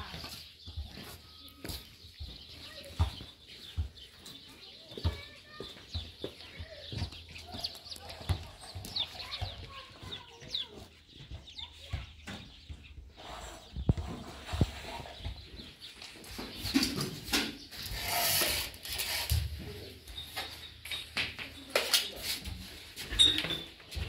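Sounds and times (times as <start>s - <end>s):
bird chirps and calls: 0.0s - 22.4s.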